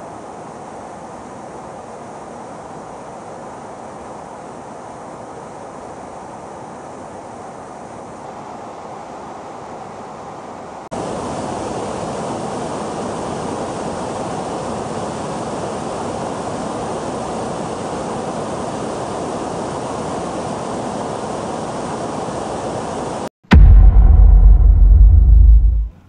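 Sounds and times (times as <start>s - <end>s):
airflow and jet engines rushing: 0.0s - 26.0s.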